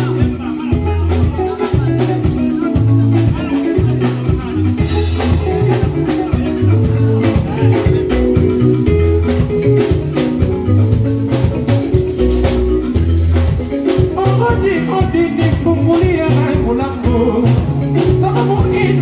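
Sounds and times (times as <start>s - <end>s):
bass line: 0.0s - 19.0s
plucked guitar: 0.0s - 19.0s
steady drums: 0.0s - 19.0s.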